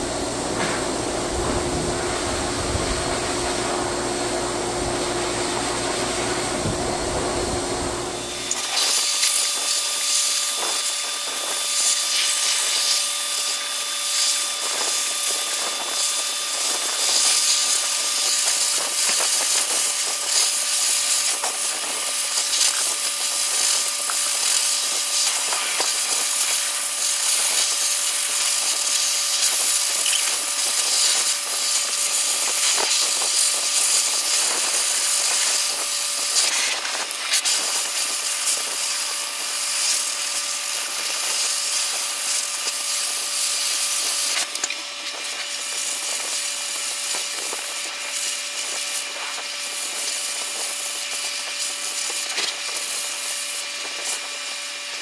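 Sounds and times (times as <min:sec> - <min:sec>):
electric clipper buzzing: 0:00.0 - 0:55.0.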